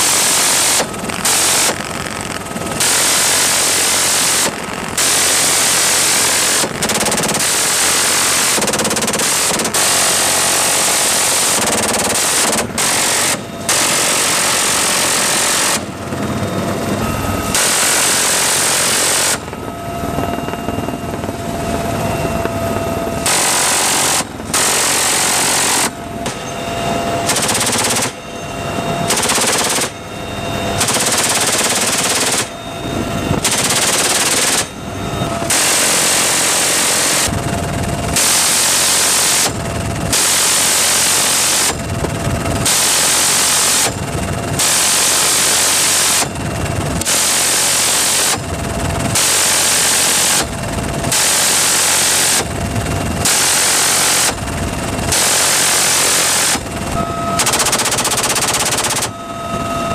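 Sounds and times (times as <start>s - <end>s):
minigun firing bursts: 0.0s - 26.4s, 27.2s - 28.2s, 29.0s - 30.0s, 30.7s - 32.6s, 33.3s - 48.5s, 49.2s - 59.2s
helicopter cabin noise whine: 0.0s - 59.9s.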